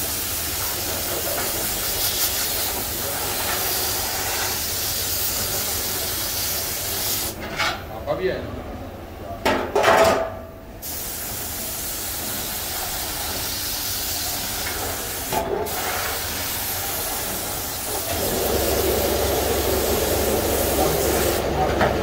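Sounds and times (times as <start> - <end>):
spray gun hissing: 0.0 - 7.4, 10.8 - 21.6.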